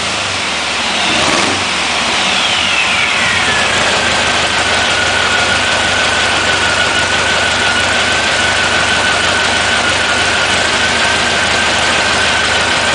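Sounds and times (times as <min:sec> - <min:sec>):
air-cooled engine running: 0:00.0 - 0:12.9
steady high whine: 0:00.0 - 0:12.9.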